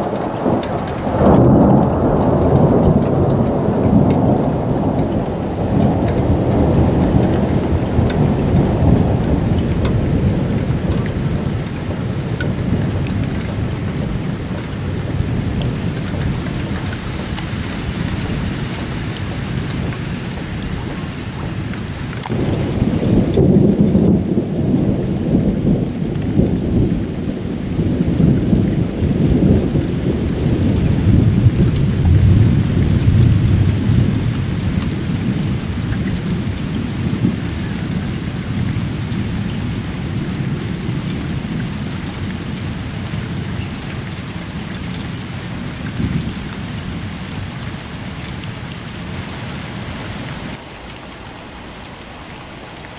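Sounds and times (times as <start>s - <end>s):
rolling thunder: 0.0s - 50.6s
steady rain: 0.0s - 52.9s.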